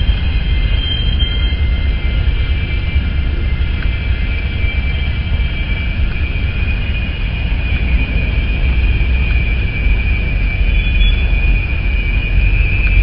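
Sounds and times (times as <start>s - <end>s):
freight train rumbling past: 0.0s - 13.0s
high-pitched wheel squeal: 0.0s - 13.0s.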